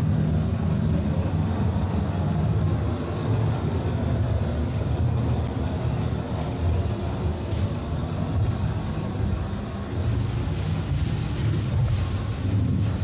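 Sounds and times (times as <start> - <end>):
escalator mechanical rumble: 0.0 - 13.0.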